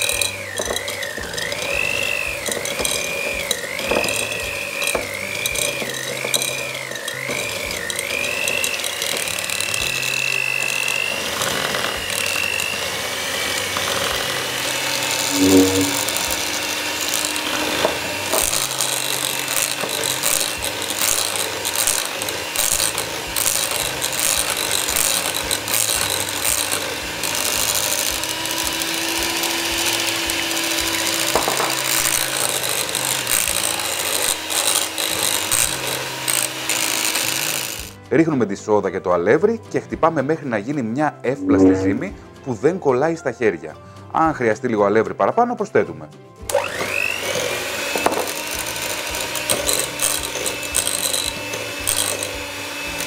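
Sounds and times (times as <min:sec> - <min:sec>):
beaters clicking and rattling in bowl: 0:00.0 - 0:12.9, 0:13.5 - 0:38.0, 0:47.3 - 0:53.0
hand mixer motor whirring: 0:00.0 - 0:38.0, 0:46.5 - 0:53.0.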